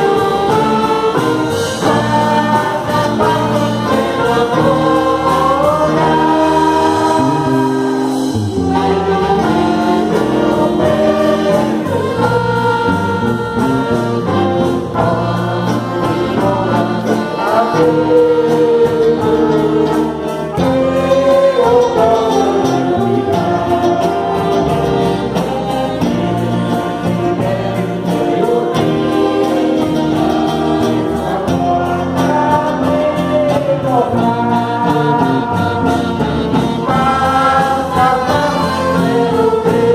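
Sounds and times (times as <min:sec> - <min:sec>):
orchestra with brass playing hymn: 0:00.0 - 0:39.9
voices singing long notes: 0:00.0 - 0:39.9.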